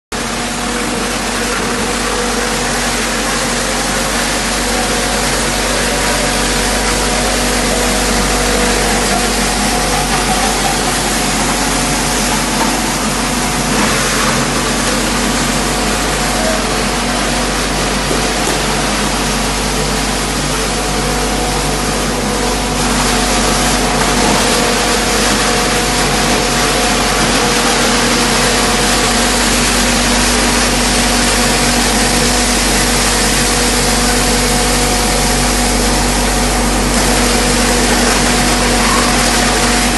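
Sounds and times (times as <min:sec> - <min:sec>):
foam crushing machine motor hum: 0:00.1 - 0:39.9.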